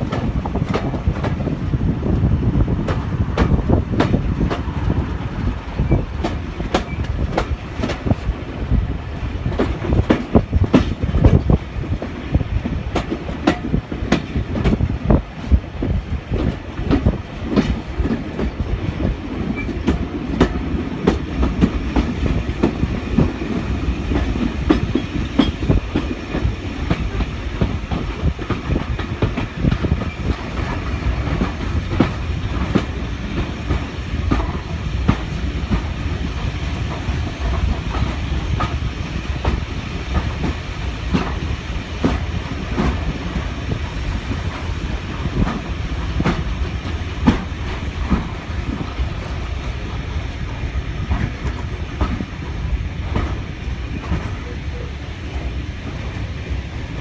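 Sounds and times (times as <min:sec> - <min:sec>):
train wheels clattering over rail joints: 0:00.0 - 0:57.0.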